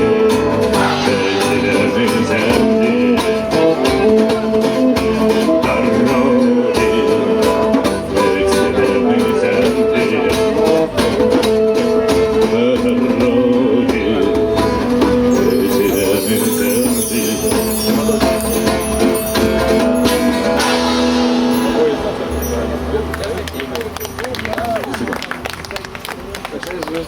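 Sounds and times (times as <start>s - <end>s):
guitar playing: 0.0s - 25.6s
live band music: 0.0s - 25.6s.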